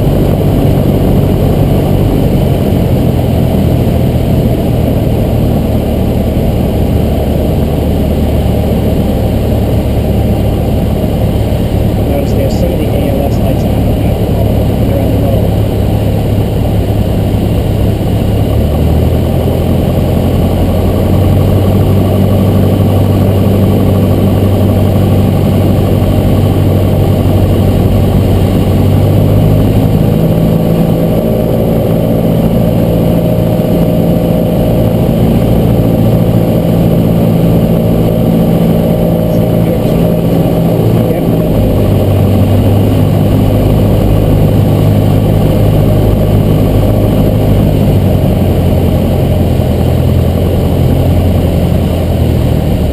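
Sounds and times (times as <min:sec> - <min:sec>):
airplane engine and propeller droning: 0:00.0 - 0:52.9.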